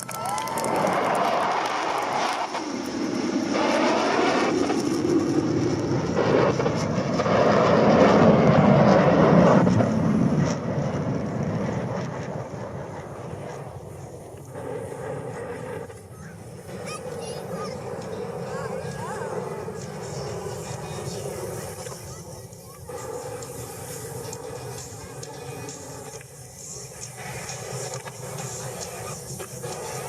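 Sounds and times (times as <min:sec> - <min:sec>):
aircraft engine roar: 0:00.0 - 0:30.0.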